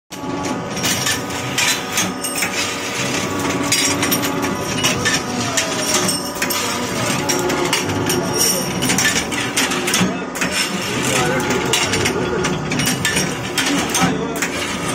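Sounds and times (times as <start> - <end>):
machine humming: 0.1 - 14.9
metal rods clattering: 0.7 - 14.9.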